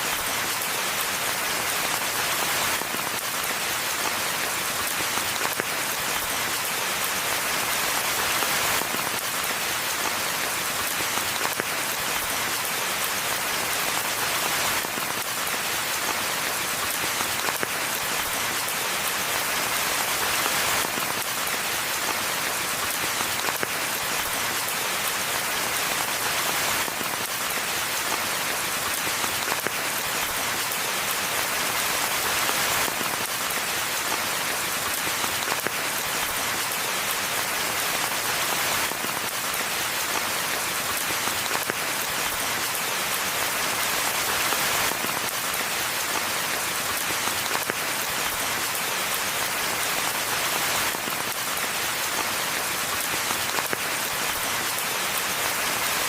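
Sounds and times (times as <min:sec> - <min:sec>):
rain pattering on foliage: 0:00.0 - 0:56.0.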